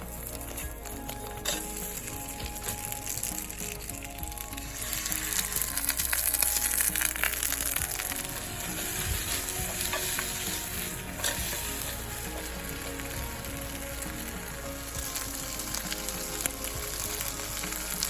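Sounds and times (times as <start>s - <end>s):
food sizzling in a pan: 0.0s - 18.0s
soft background music: 0.0s - 18.0s.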